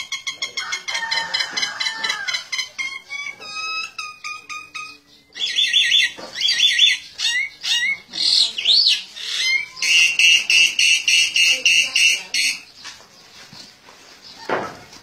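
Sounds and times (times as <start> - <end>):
myna chirping: 0.0 - 15.0.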